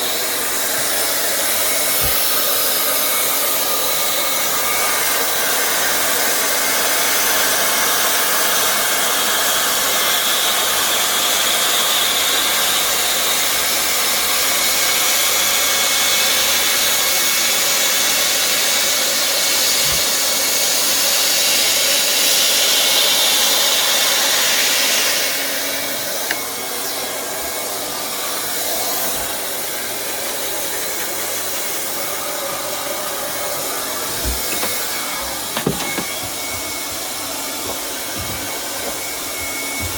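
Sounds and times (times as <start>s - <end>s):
hot-air plastic welder hissing: 0.1s - 10.7s, 11.3s - 32.2s, 32.8s - 39.9s.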